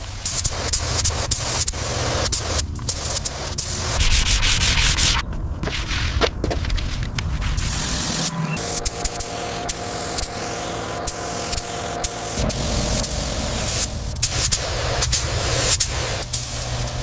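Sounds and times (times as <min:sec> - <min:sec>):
sanding car bodywork: 0:00.1 - 0:17.0.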